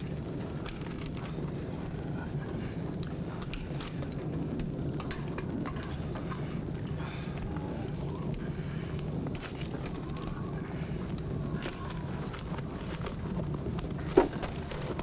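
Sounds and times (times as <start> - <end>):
faint ticks and crackles: 0.0 - 15.0
low rumbling background noise: 0.0 - 15.0.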